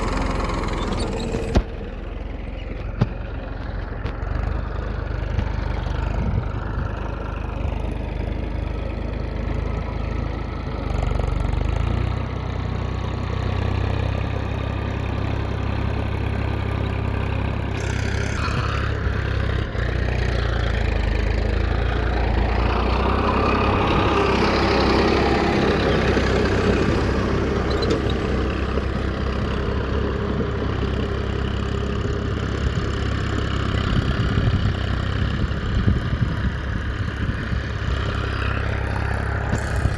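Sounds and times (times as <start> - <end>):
engine humming: 0.0 - 39.9.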